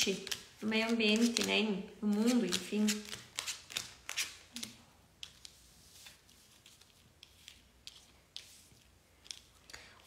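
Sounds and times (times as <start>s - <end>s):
playing cards clicking and rustling: 0.0s - 9.6s.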